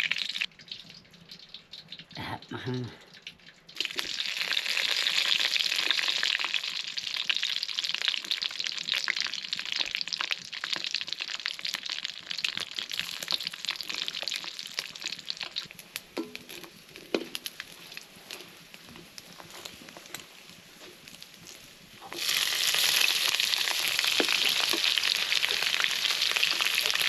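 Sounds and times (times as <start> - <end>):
food sizzling in hot oil: 0.0 - 2.0, 3.7 - 27.0.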